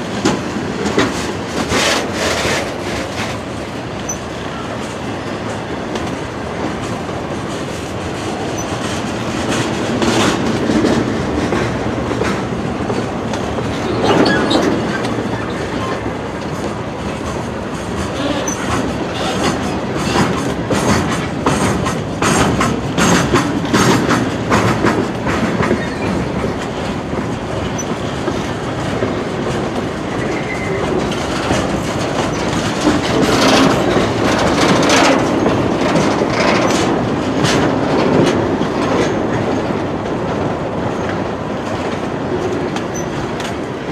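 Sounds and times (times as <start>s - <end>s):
freight train cars rolling: 0.0s - 43.9s
wheels clicking over rail joints: 0.0s - 43.9s.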